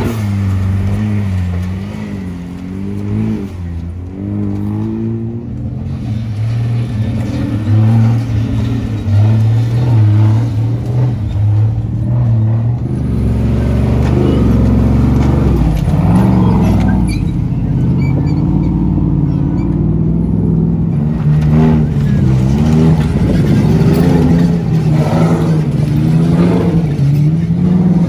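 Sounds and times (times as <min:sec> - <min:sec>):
race buggy engines revving past: 0:00.0 - 0:28.0.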